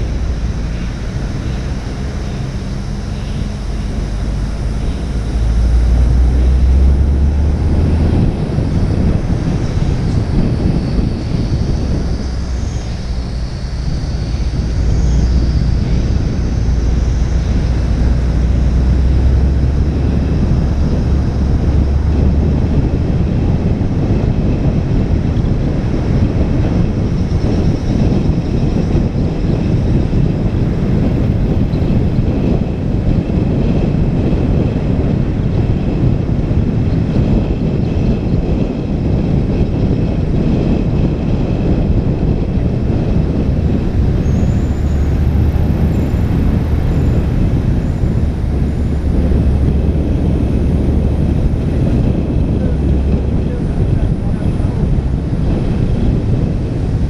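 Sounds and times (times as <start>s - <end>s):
deep rumble: 0.0s - 57.0s
wind rushing over microphone: 0.0s - 57.0s.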